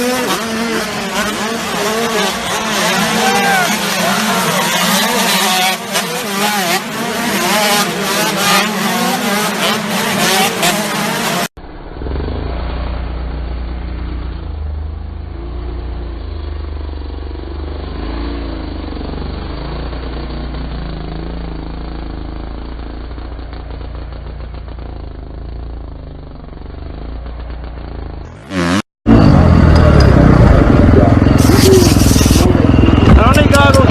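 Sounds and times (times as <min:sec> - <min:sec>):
motorcycle engines revving: 0:00.0 - 0:33.9.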